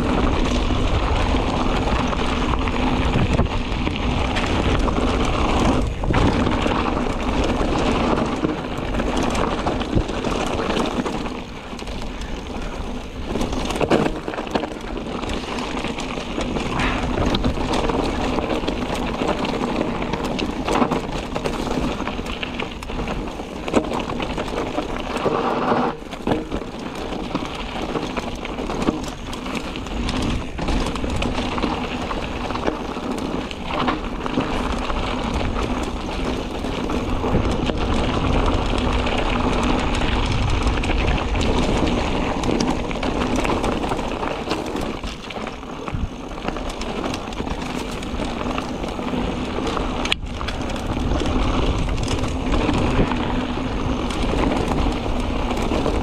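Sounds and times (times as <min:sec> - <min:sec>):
bike rattling and knocking: 0:00.0 - 0:56.0
bike tyres crunching on gravel: 0:00.0 - 0:56.0.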